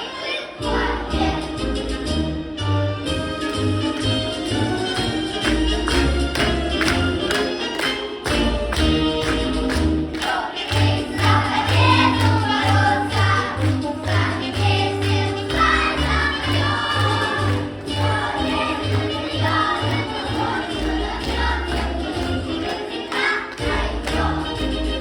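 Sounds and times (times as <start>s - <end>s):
children's choir singing: 0.0s - 2.2s, 3.3s - 25.0s.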